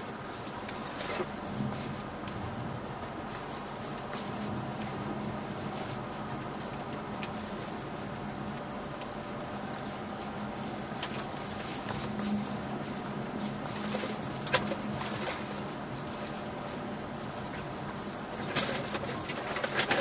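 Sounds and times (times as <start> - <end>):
car engine running at low speed: 0.0 - 20.0
road noise: 0.0 - 20.0.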